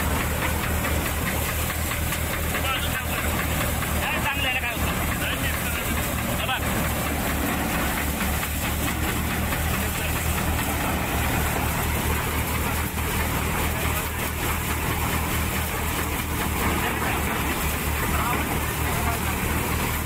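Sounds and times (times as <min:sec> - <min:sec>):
engine throbbing: 0:00.0 - 0:20.0
thresher running: 0:00.0 - 0:20.0.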